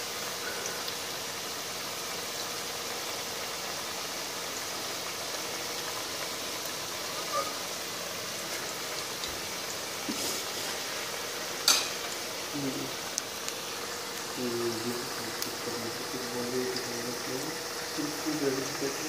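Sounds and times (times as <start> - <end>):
oil sizzling: 0.0 - 19.0.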